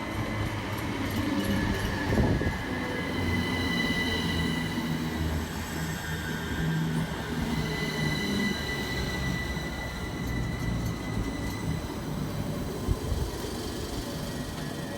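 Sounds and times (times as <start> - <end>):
train rumbling on rails: 0.0 - 14.9.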